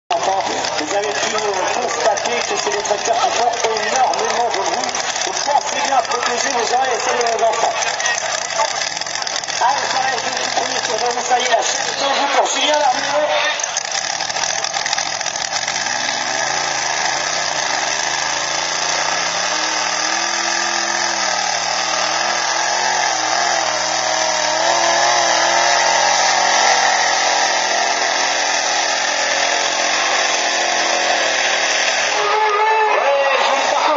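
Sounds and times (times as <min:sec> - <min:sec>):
tractor engine screaming: 0:00.1 - 0:33.9.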